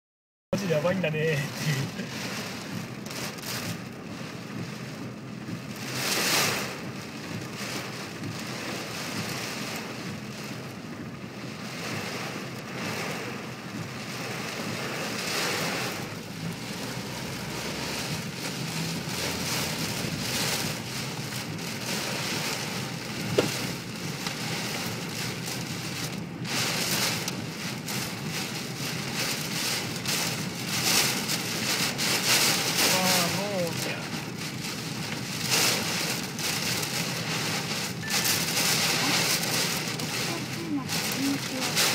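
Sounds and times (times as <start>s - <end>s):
heavy rain rushing: 0.6s - 41.9s.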